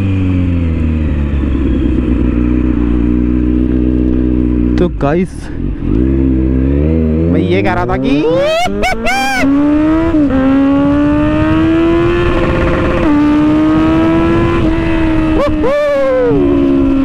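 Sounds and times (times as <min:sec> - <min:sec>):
rushing wind: 0:00.0 - 0:04.8, 0:05.6 - 0:17.0
motorcycle engine revving: 0:00.0 - 0:17.0.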